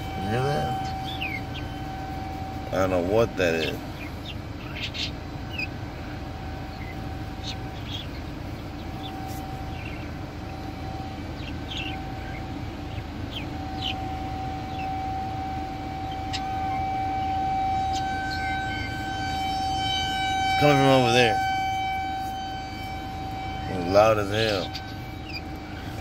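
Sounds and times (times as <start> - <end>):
distant alarm steady high tone: 0.0 - 26.0.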